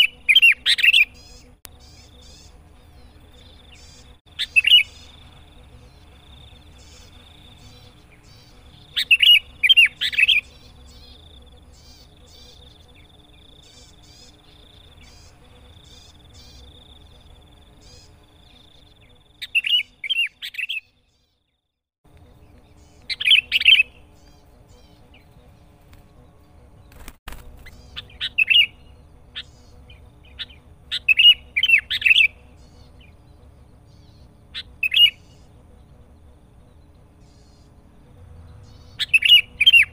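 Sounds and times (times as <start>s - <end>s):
bulbul singing: 0.0s - 39.9s
faint bird chirps: 0.0s - 39.9s.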